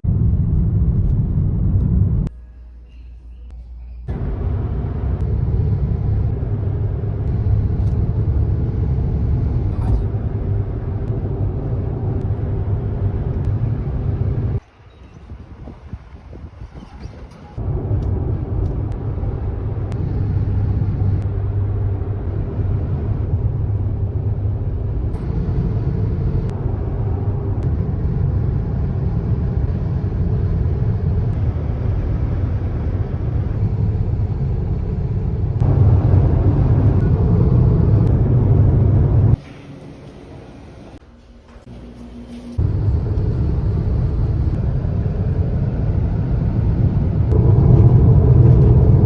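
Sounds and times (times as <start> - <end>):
car road and engine rumble: 4.1 - 39.5, 42.6 - 49.0.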